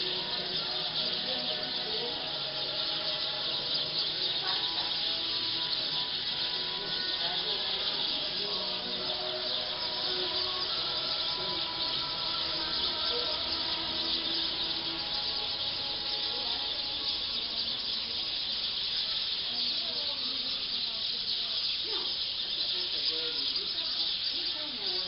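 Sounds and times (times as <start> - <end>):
flock of birds chattering: 0.0 - 25.0.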